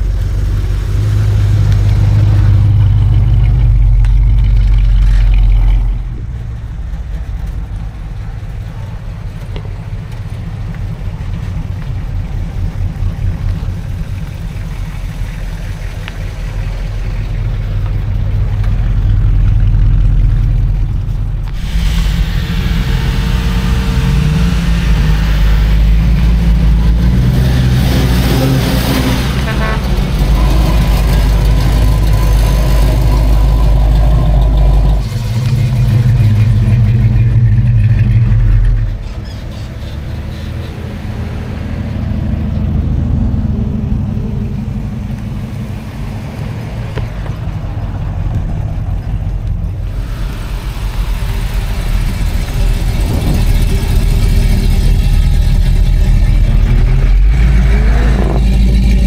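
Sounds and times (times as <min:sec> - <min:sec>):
loud cars driving past: 0:00.0 - 0:59.0.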